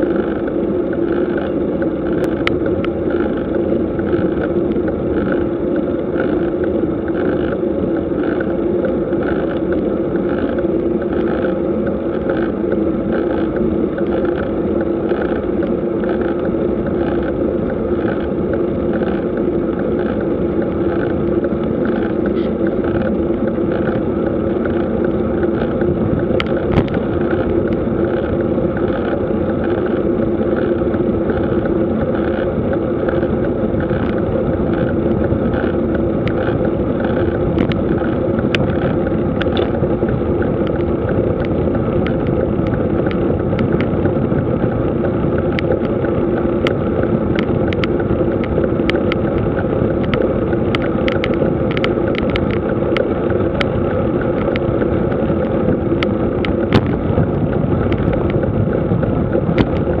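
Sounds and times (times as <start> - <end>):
small clicks and taps from bike: 0.0 - 5.4, 6.1 - 60.0
bicycle tyre noise on pavement: 0.0 - 60.0
wind rush: 0.0 - 60.0.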